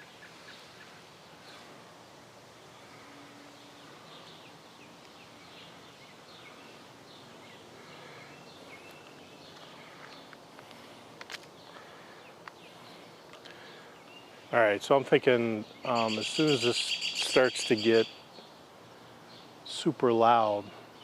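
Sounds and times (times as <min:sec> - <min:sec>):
birds chirping: 0:00.0 - 0:21.0
steady background hiss: 0:00.0 - 0:21.0.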